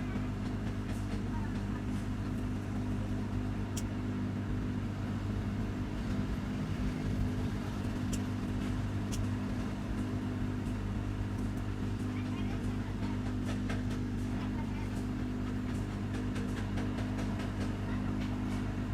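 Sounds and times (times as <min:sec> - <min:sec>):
electric fan motor hum: 0:00.0 - 0:18.9.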